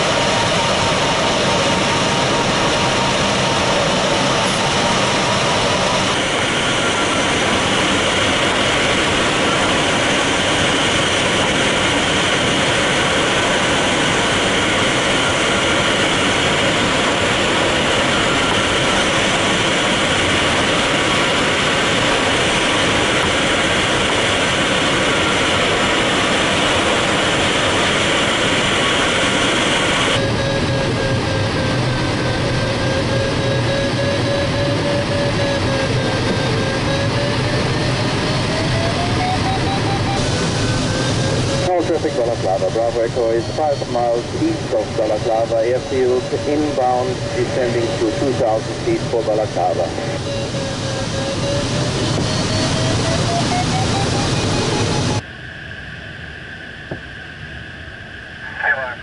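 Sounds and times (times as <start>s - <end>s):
airflow rushing around glider: 0.0s - 59.0s.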